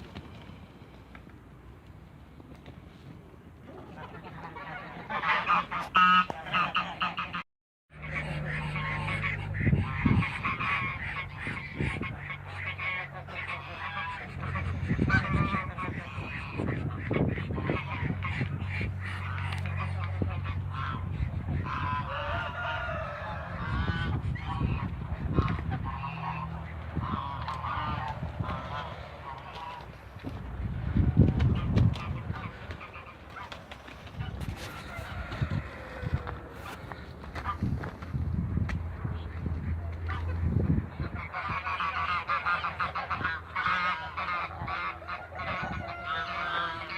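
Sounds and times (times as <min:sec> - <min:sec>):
geese honking: 0:03.7 - 0:30.3, 0:31.0 - 0:37.7, 0:39.4 - 0:46.9.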